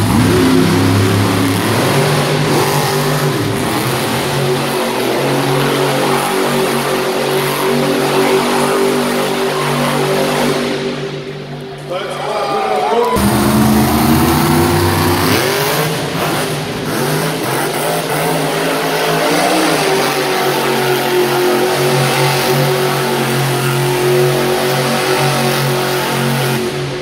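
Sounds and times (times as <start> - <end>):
truck engine revving: 0.0 - 11.4, 13.2 - 27.0.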